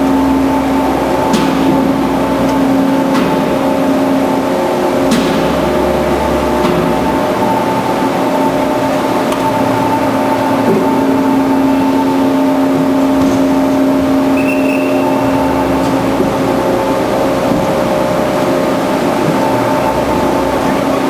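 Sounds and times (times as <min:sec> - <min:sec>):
band saw humming: 0:00.0 - 0:21.0
faint high whine: 0:00.0 - 0:21.0.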